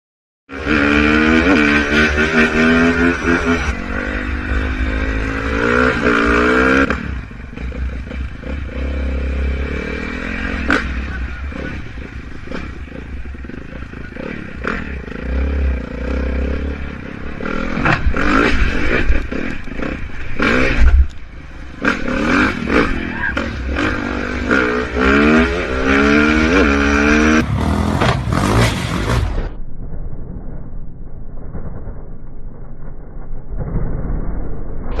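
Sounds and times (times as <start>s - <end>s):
dirt bike engine revving: 0.5s - 29.6s
noisy rush: 0.5s - 35.0s.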